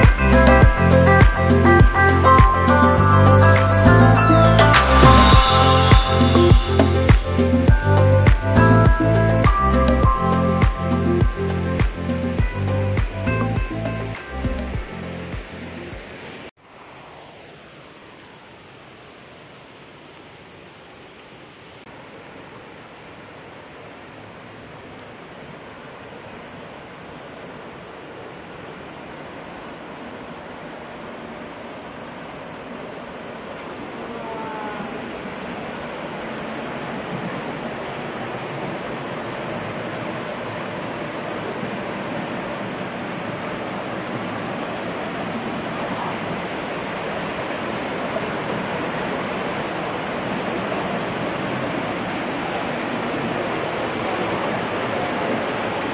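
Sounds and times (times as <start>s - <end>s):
stream and waterfall rushing: 0.0s - 55.9s.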